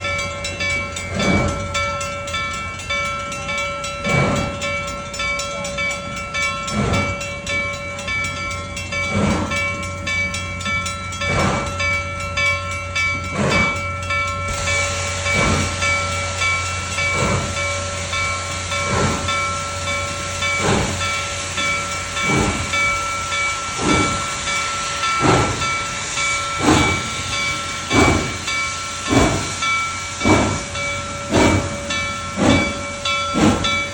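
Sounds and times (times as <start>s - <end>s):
steam hissing: 0.0s - 33.9s
steam locomotive chuffing: 0.0s - 33.9s.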